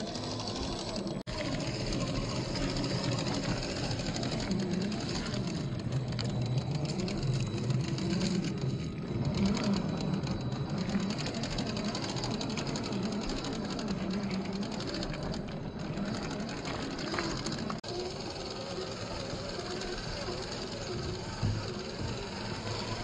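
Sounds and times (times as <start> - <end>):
toy car motor whining: 0.0 - 23.0.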